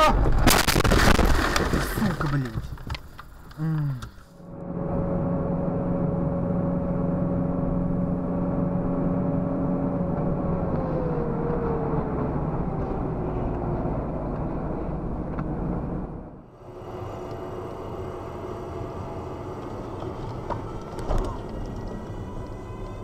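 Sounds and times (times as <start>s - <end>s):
vehicle engine and road noise: 2.1s - 23.0s.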